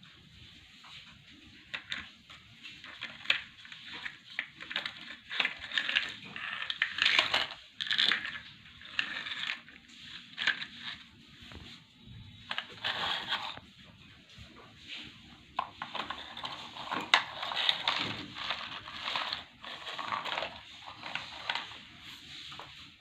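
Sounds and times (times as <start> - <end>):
toys clattering and scraping: 1.6 - 11.6, 12.4 - 13.6, 15.6 - 22.7.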